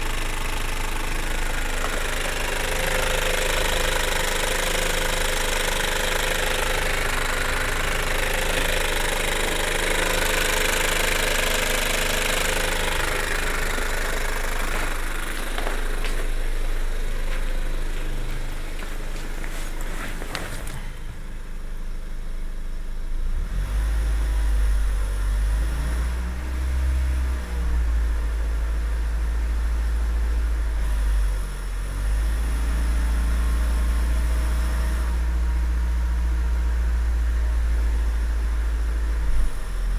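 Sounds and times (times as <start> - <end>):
car engine running: 0.0 - 39.9
engine rattling: 0.0 - 39.9.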